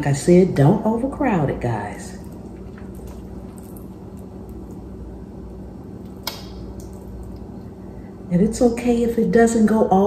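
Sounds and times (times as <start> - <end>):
kitchen room hum: 0.0 - 10.0.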